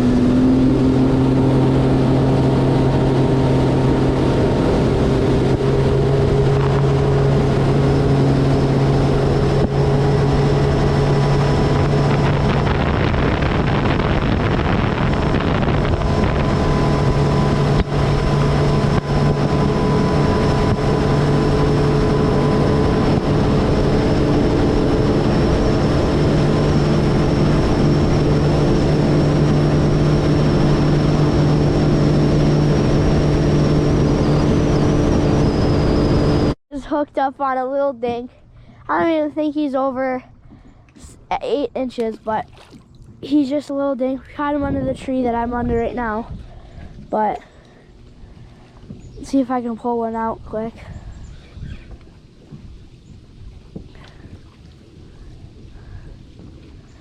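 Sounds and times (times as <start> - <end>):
boat motor droning: 0.0 - 57.0.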